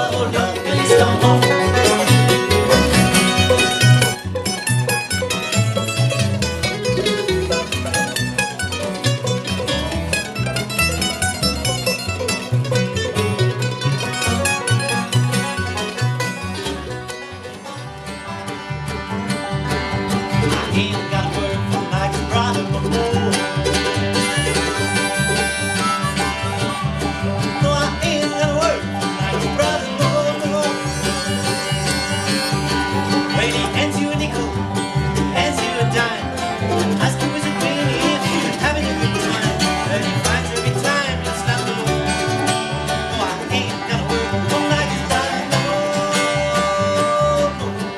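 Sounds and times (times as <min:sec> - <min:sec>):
banjo picking: 0:00.0 - 0:47.9
guitar picking: 0:00.0 - 0:47.9
upright bass rhythm: 0:00.0 - 0:47.9.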